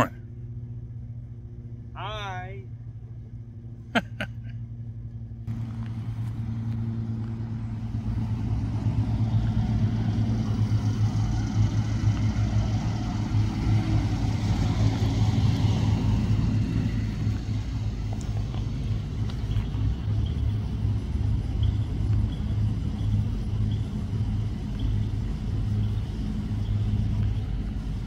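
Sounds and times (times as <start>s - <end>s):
engine humming and rumbling: 0.0s - 28.0s.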